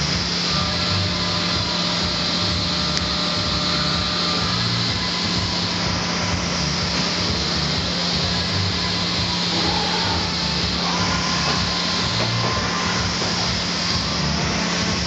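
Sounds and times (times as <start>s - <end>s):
faint high machine whine: 0.0s - 15.0s
lathe machine running: 0.0s - 15.0s.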